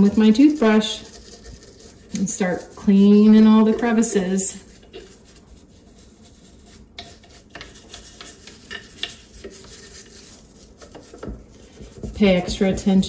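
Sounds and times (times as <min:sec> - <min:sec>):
toothbrush scrubbing metal: 0:00.0 - 0:13.0.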